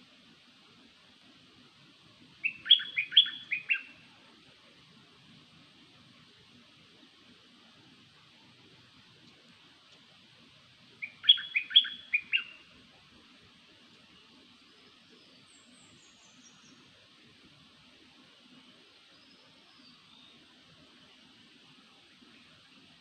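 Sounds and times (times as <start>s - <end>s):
faint steady hiss: 0.0s - 23.0s
songbird chirps: 2.2s - 6.4s, 7.0s - 23.0s.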